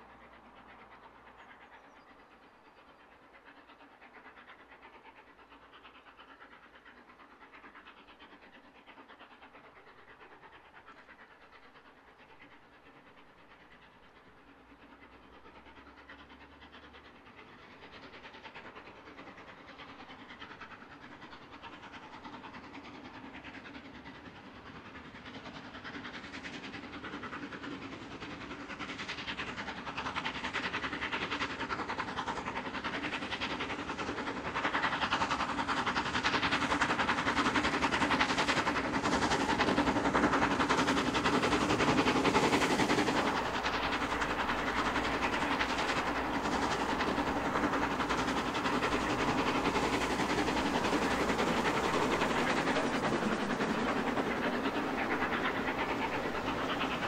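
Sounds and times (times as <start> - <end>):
steam locomotive exhaust beat: 0.0 - 57.0
train running noise: 0.0 - 57.0.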